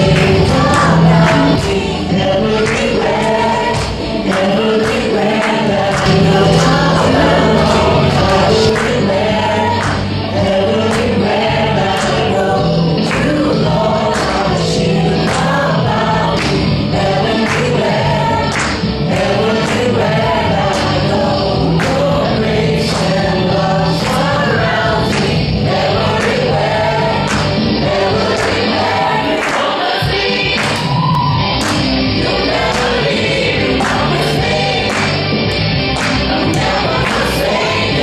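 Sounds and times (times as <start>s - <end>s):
choir singing gospel: 0.0s - 38.0s
instrumental backing with beat: 0.0s - 38.0s.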